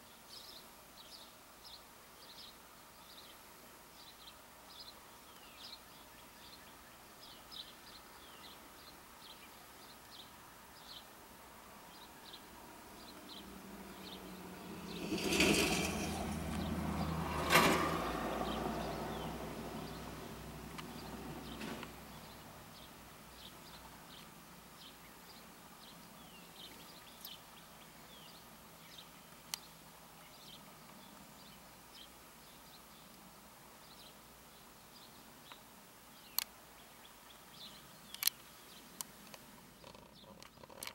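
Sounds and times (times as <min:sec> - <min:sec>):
faint background noise: 0:00.0 - 0:40.9
small birds chirping: 0:00.0 - 0:40.9.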